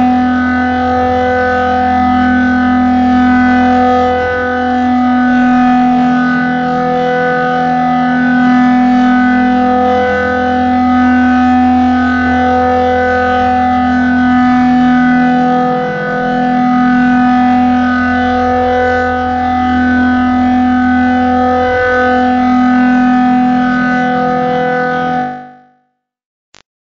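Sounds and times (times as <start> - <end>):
steady siren-like tone: 0.0 - 26.0.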